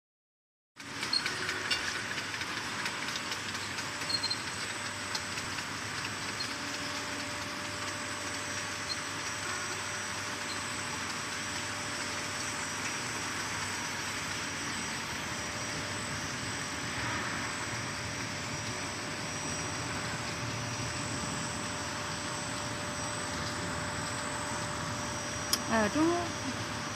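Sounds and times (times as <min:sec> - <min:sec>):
bottling machinery whirring: 0:00.8 - 0:26.9.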